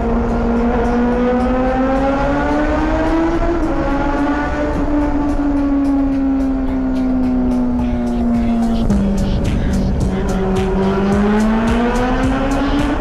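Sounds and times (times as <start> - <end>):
motorcycle engine in tunnel: 0.0 - 13.0.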